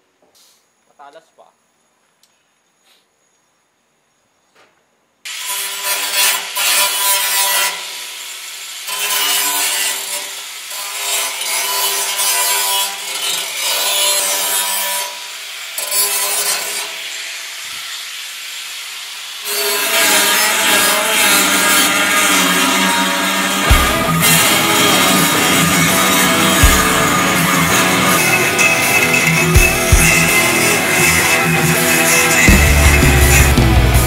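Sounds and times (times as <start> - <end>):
angle grinder grinding metal: 5.3 - 34.0.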